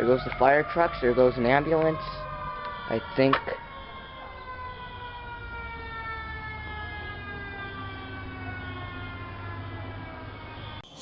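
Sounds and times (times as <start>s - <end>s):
siren gliding down in pitch: 0.0s - 11.0s.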